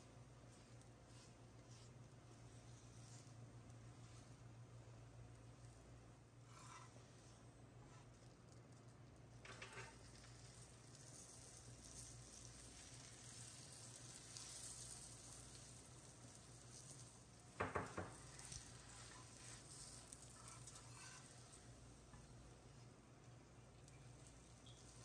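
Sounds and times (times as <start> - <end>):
flatbread sizzling on a griddle: 0.0 - 25.0.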